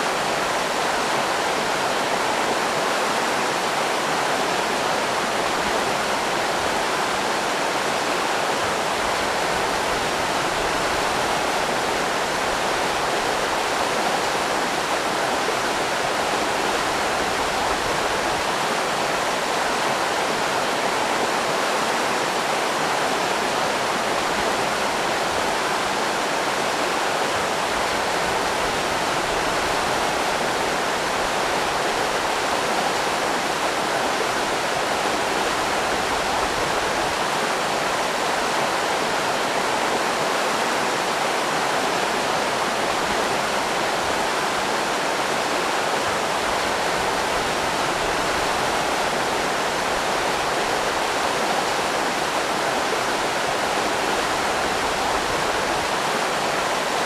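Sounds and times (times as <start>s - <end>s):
river rapids rushing: 0.0s - 57.0s.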